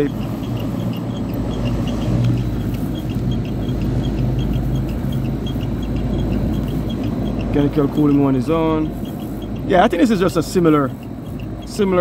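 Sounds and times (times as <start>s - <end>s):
rooftop hvac unit humming: 0.0s - 12.0s.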